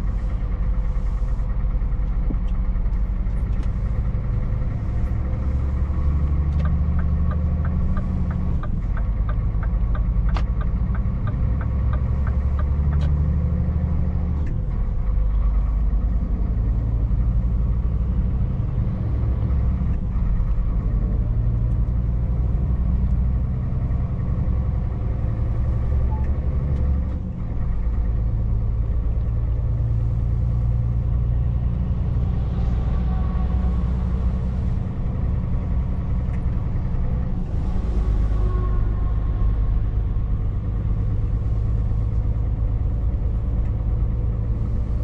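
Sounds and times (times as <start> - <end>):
road noise: 0.0 - 45.0
truck engine droning: 0.0 - 45.0.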